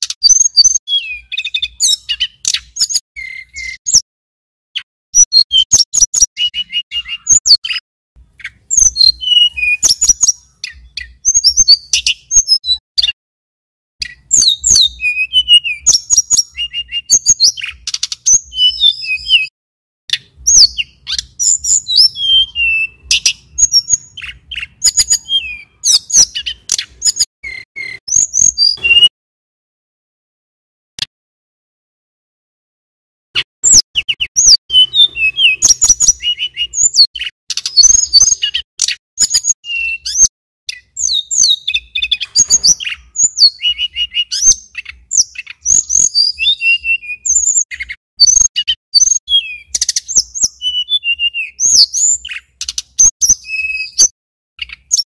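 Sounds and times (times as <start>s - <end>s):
songbird chirping and whistling: 0.0s - 4.0s, 4.8s - 13.2s, 14.0s - 19.5s, 20.1s - 29.1s, 33.4s - 55.0s.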